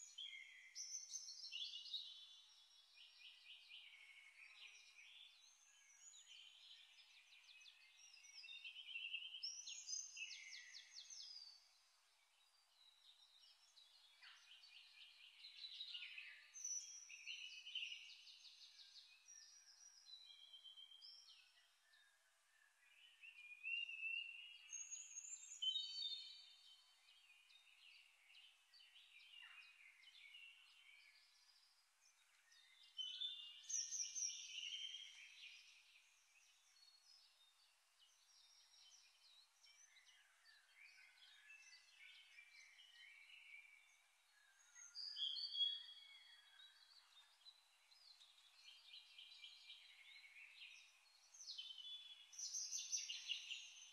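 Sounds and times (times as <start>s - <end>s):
faint birdsong: 0.0s - 53.9s.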